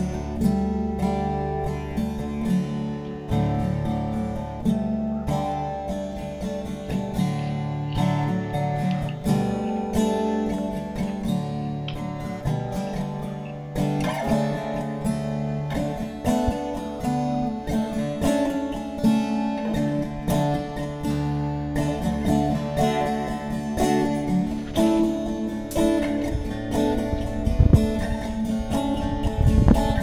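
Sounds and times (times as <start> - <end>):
acoustic guitar plucked and strummed: 0.0 - 30.0.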